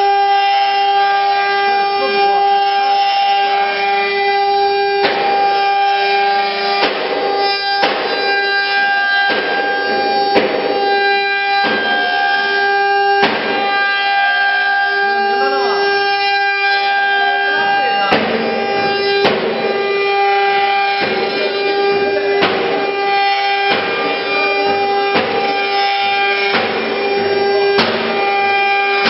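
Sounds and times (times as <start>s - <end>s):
router spindles whining: 1.1s - 29.0s.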